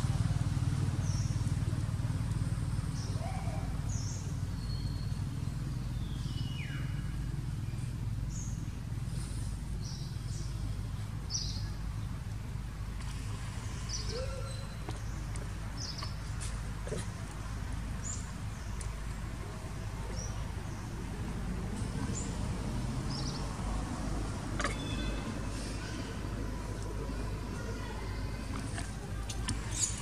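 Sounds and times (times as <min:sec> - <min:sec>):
low background rumble: 0:00.0 - 0:30.0.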